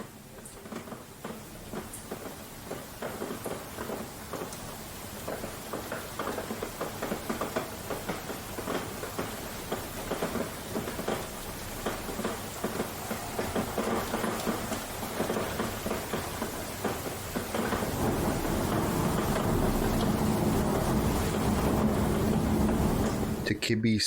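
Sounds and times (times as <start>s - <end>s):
rain falling: 0.0s - 23.7s.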